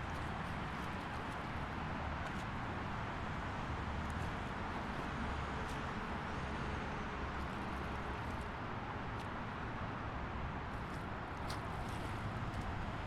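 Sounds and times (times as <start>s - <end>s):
tyre and wind road noise: 0.0s - 13.0s.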